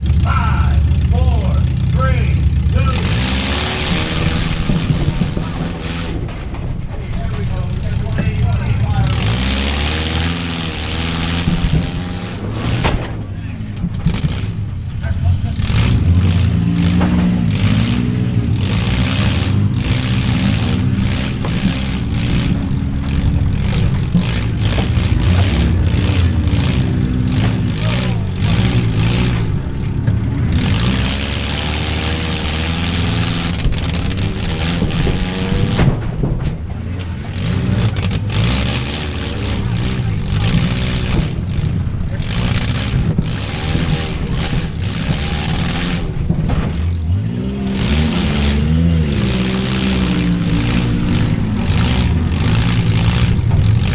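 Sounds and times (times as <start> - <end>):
van engine revving hard: 0.0 - 53.9
sharp knocks and bangs: 2.6 - 53.9.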